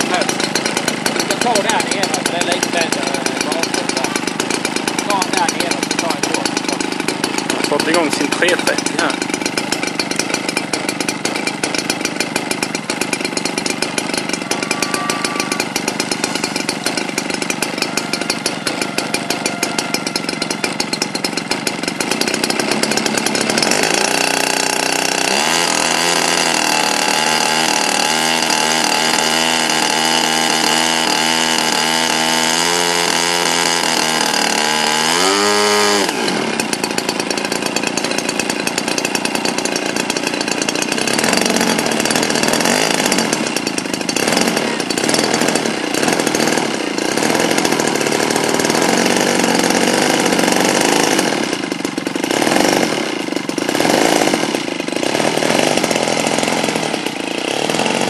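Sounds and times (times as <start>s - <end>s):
model aircraft engine buzzing: 0.0s - 58.0s.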